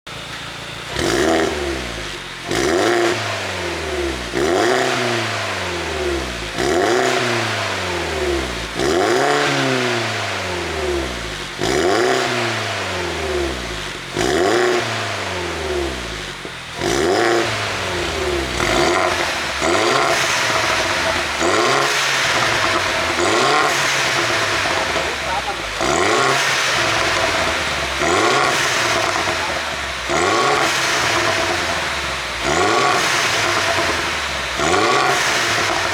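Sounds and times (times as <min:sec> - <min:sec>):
car engine revving: 0:00.1 - 0:35.9
exhaust popping and crackling: 0:00.1 - 0:35.9.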